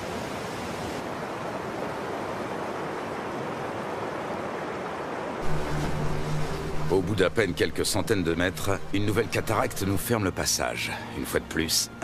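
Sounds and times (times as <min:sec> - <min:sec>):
white water rushing over rocks: 0:00.0 - 0:10.2.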